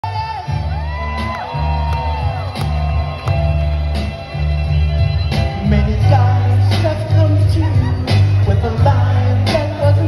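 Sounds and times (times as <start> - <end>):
live band music: 0.0 - 10.0
heavy bass line: 0.4 - 10.0.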